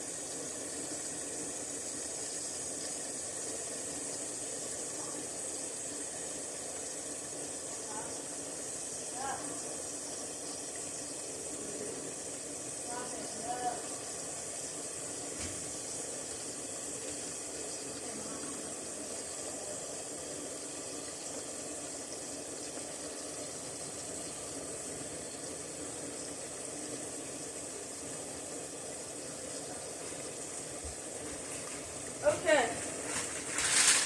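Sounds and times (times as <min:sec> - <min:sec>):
steaks sizzling in a pan: 0:00.0 - 0:34.0.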